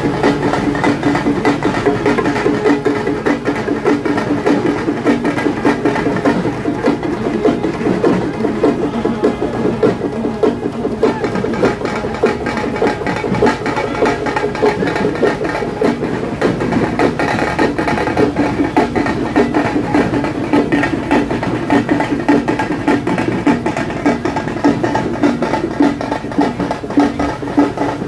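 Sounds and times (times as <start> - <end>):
drums beaten fast: 0.0 - 28.0.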